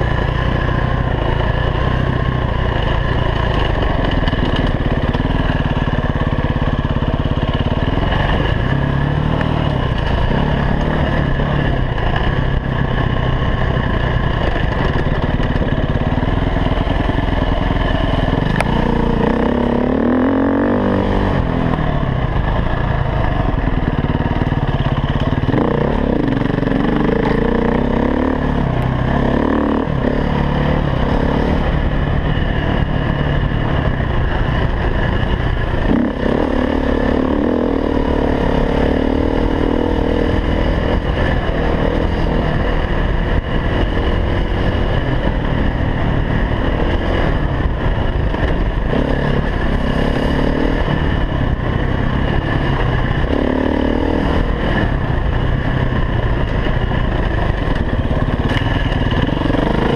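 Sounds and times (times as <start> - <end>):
dirt bike engine revving: 1.0 - 59.9.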